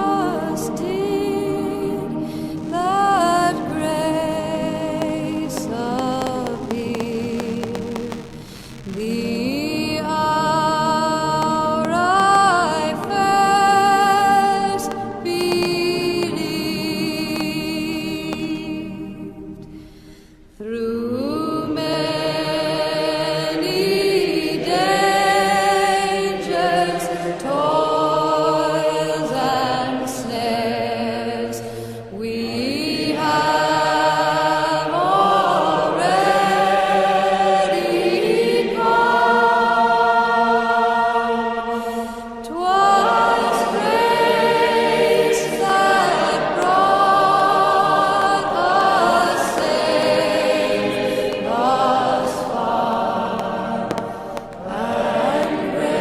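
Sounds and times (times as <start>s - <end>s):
choir singing: 0.0s - 7.7s, 9.0s - 19.6s, 20.6s - 56.0s.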